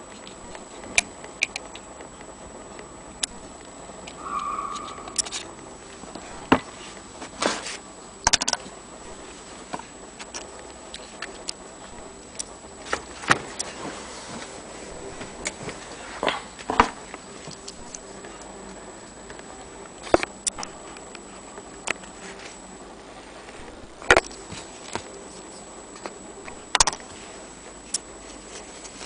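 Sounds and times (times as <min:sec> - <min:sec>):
faint high-pitched whine: 0:00.0 - 0:29.0.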